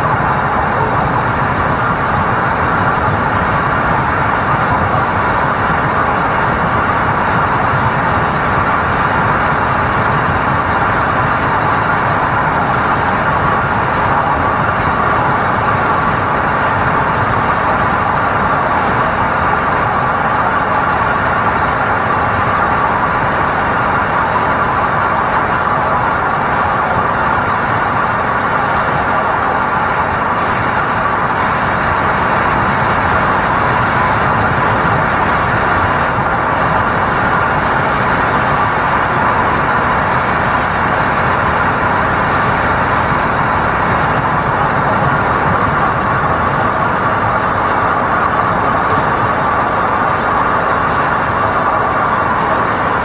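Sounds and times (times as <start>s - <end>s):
tyre and road noise: 0.0s - 53.0s.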